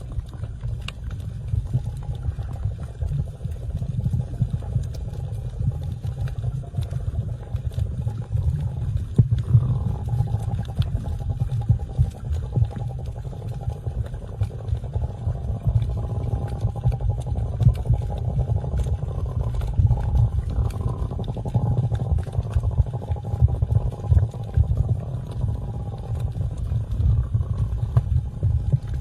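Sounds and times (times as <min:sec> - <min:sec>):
underwater rumbling snore: 0:00.0 - 0:29.0.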